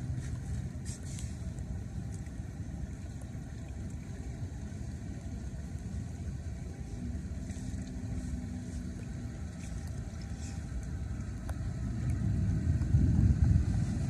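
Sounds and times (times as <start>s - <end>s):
car on wet road: 0.0s - 2.9s, 4.4s - 14.0s.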